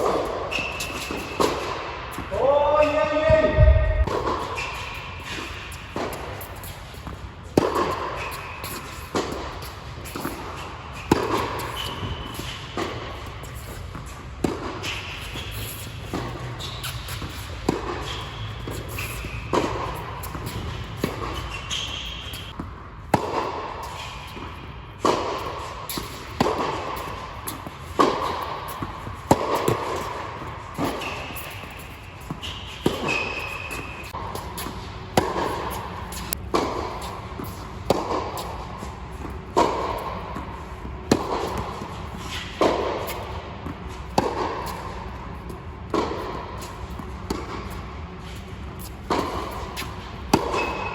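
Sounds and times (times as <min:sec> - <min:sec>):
racquet hitting tennis ball: 0:00.0 - 0:03.4, 0:04.0 - 0:47.9, 0:48.7 - 0:50.9
ball bouncing on court: 0:00.0 - 0:06.3, 0:13.9 - 0:47.8, 0:48.8 - 0:50.9.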